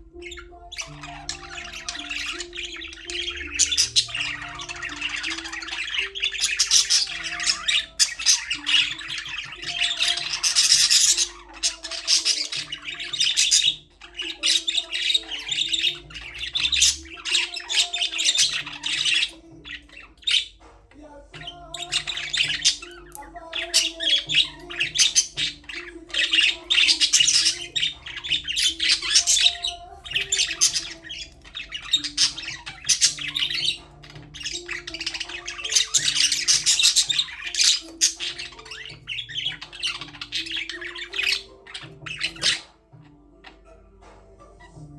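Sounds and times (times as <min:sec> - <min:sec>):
budgerigars chirping and chattering: 0:00.0 - 0:44.9
soft background music: 0:00.0 - 0:44.9.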